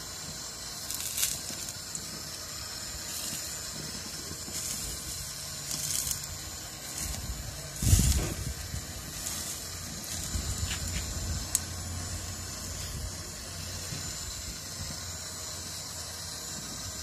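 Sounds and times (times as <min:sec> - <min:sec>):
fat sizzling on flames: 0:00.0 - 0:17.0
gas grill hissing: 0:00.0 - 0:17.0.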